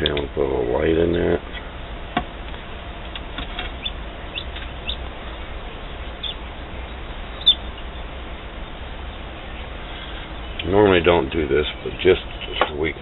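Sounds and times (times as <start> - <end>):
chicks peeping: 0.0 - 2.0, 2.6 - 13.0
incubator low hum: 0.0 - 13.0.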